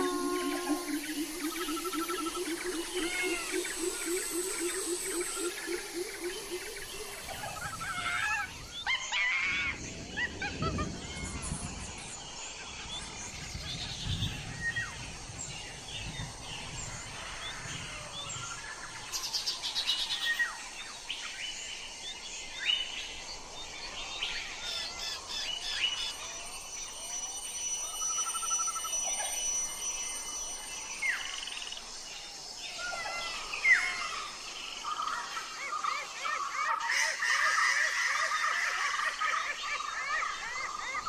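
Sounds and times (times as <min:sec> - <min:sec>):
wild birds chirping and whistling: 0:00.0 - 0:41.0.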